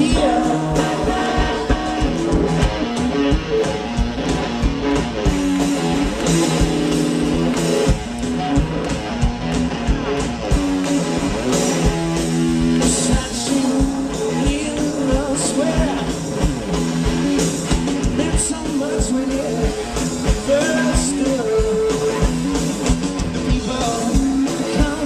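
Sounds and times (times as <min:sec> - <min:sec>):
bass guitar: 0:00.0 - 0:25.0
electric guitar riff: 0:00.0 - 0:25.0
steady drum beat: 0:00.0 - 0:25.0.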